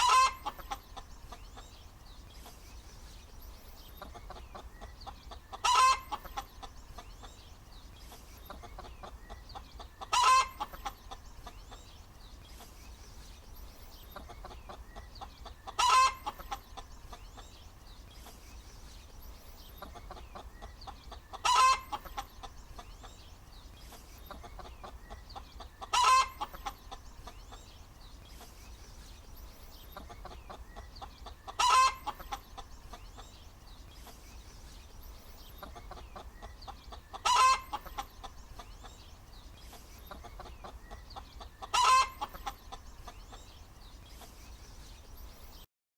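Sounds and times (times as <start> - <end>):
hen clucking softly: 0.0 - 2.6, 3.8 - 12.9, 14.0 - 18.4, 19.2 - 28.8, 29.7 - 34.2, 35.4 - 44.6.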